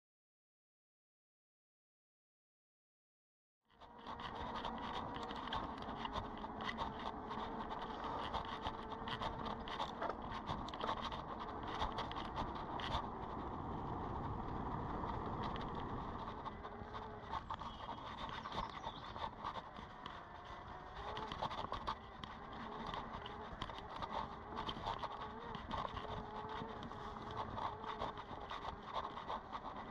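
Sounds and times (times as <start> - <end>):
steady motor hum: 3.7 - 29.9
bike tyres on dirt track: 3.8 - 29.9.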